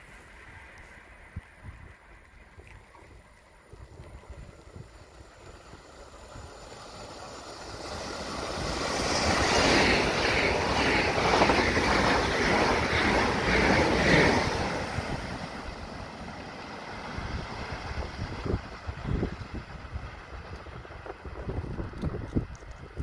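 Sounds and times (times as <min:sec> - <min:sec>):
train passing with wheel clatter: 0:03.2 - 0:23.0.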